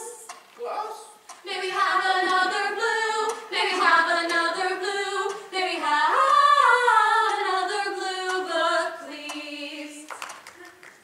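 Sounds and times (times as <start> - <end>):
voices singing together: 1.3 - 10.4.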